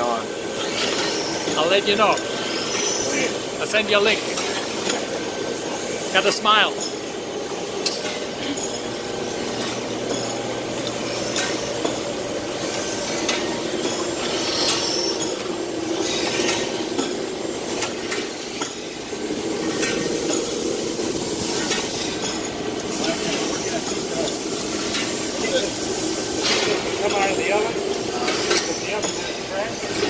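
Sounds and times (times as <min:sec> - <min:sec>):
clinks and knocks on conveyor belt: 0:03.7 - 0:30.0.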